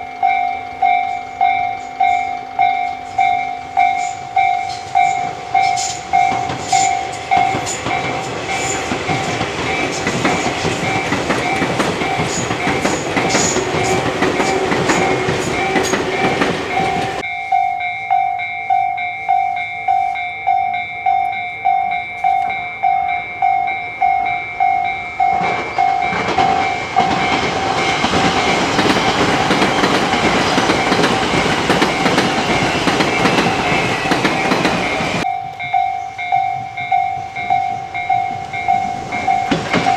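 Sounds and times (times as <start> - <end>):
train clacking over rail joints: 0.0 - 17.3, 22.0 - 39.9
level-crossing alarm ringing: 0.0 - 39.9.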